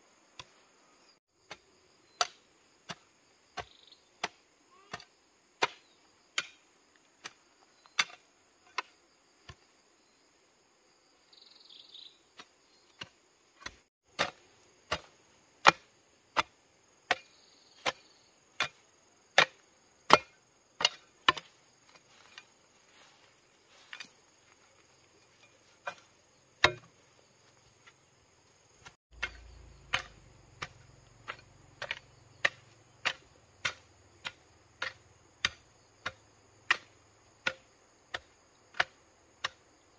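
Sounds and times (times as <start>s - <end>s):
insects droning: 0.0s - 39.9s
hoe chopping stony soil: 1.4s - 9.7s, 12.4s - 24.1s, 24.9s - 28.0s, 28.7s - 39.9s.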